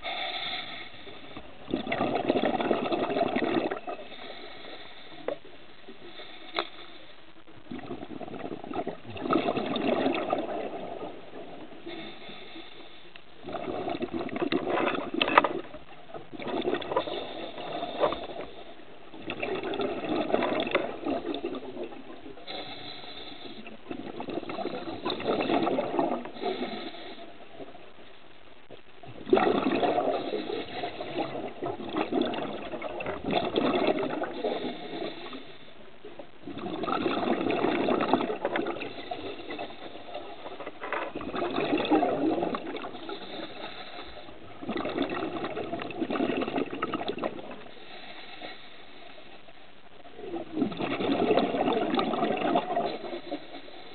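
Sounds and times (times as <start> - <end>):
underwater regulator bubbling: 0.0 - 27.8, 28.7 - 49.4, 50.0 - 53.9.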